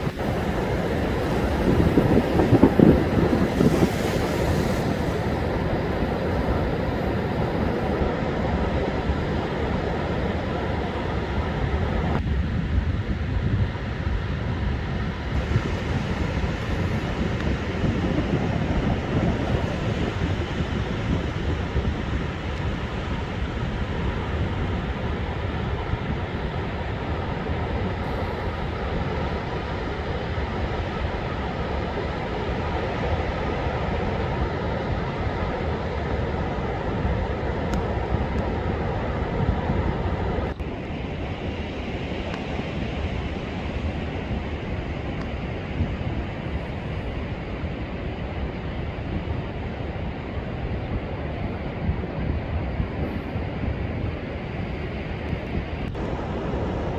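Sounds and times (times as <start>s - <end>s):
storm surf breaking: 0.0s - 56.9s
wind buffeting microphone: 0.0s - 56.9s.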